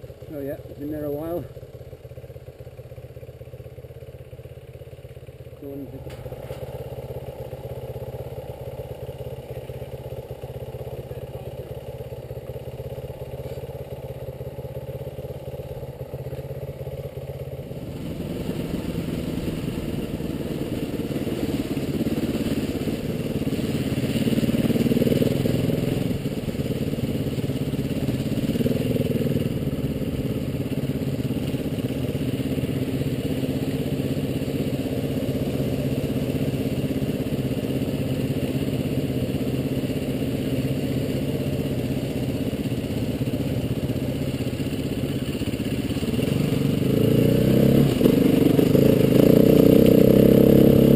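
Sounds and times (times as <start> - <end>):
motorcycle engine idling: 0.0 - 50.9
motorcycle riding at low speed: 0.0 - 50.9.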